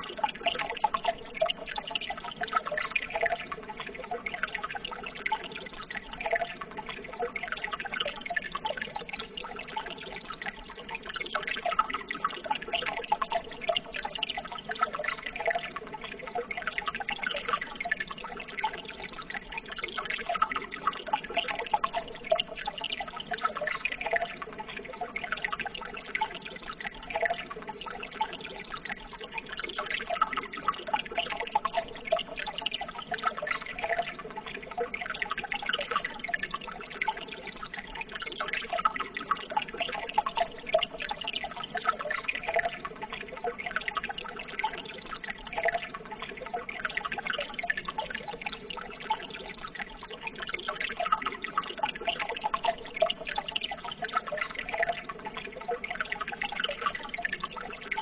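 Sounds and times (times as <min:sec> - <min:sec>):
running water babbling: 0:00.0 - 0:58.0.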